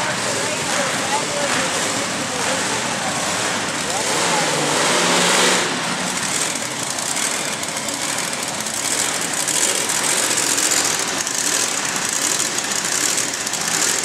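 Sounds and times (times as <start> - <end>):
monster truck engine driving past: 0.0 - 14.0.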